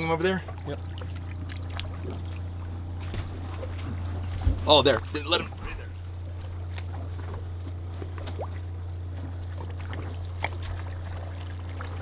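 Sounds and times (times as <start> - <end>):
boat engine idling: 0.0 - 12.0
water splashes: 0.0 - 12.0.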